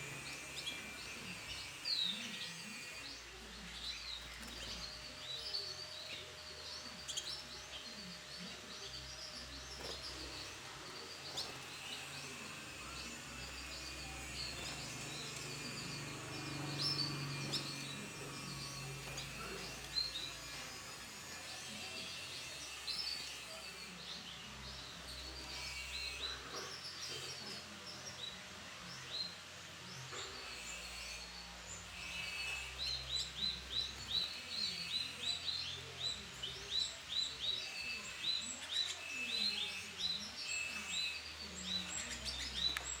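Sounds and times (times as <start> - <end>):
canary chirping: 0.0 - 43.0.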